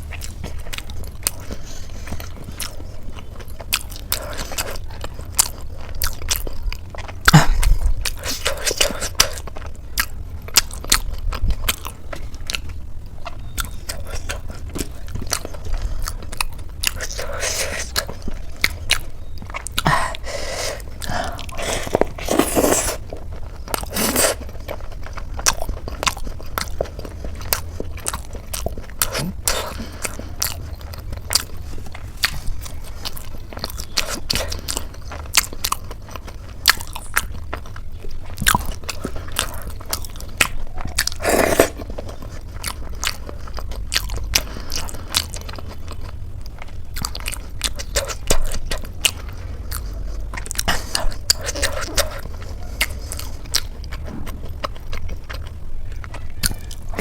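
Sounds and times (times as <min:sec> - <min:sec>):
crunchy chewing: 0:00.0 - 0:57.0
steady low hum: 0:00.0 - 0:57.0.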